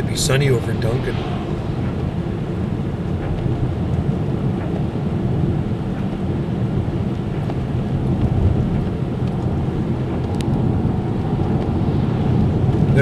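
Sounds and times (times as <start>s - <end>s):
car driving on wet road: 0.0s - 13.0s.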